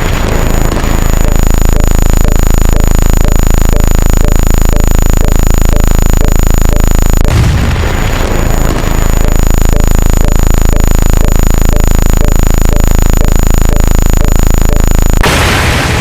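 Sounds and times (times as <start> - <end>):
faint ticking: 0.0 - 7.4, 8.2 - 15.3
electronic buzzing drone: 0.0 - 16.0
rough noisy burst: 0.0 - 16.0.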